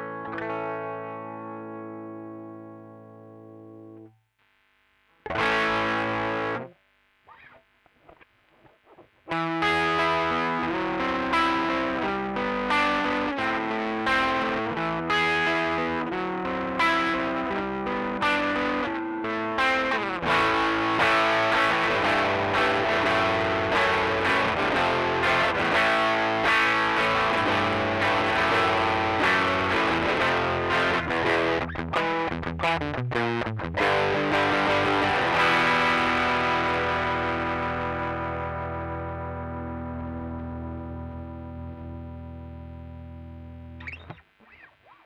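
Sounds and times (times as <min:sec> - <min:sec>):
overdriven electric guitar: 0:00.0 - 0:45.0.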